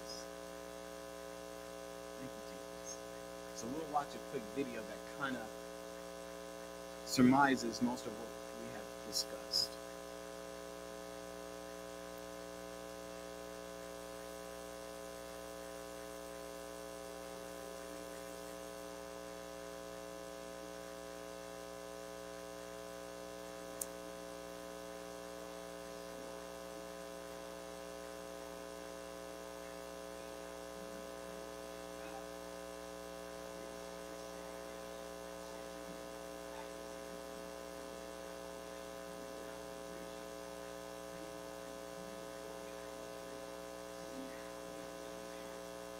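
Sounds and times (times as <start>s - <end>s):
electrical mains hum: 0.0s - 45.9s.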